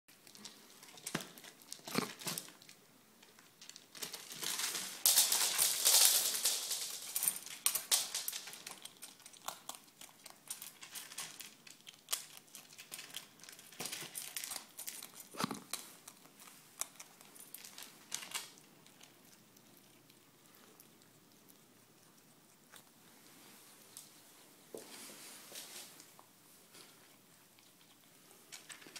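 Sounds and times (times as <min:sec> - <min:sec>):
pet eating with crunching: 0:00.1 - 0:24.4, 0:26.0 - 0:28.9.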